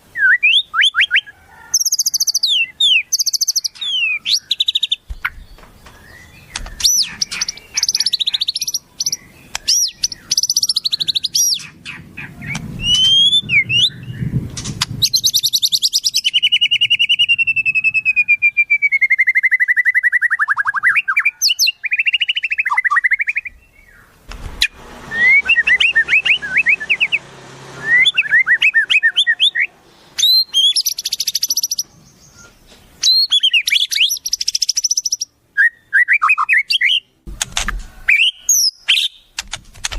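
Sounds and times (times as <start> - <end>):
songbirds singing: 0.0 - 39.4.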